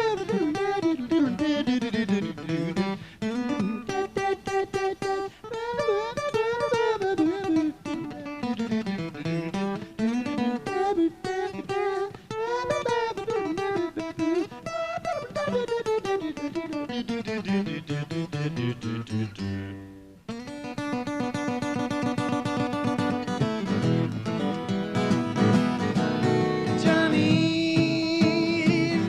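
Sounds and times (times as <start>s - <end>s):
acoustic guitar blues playing: 0.0s - 29.0s.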